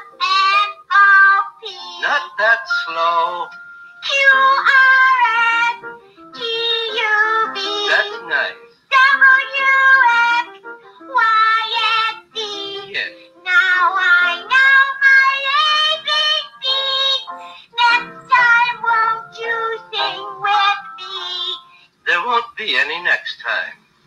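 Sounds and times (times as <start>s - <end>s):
child-like voice singing: 0.0s - 5.8s, 6.4s - 10.5s, 11.1s - 21.7s.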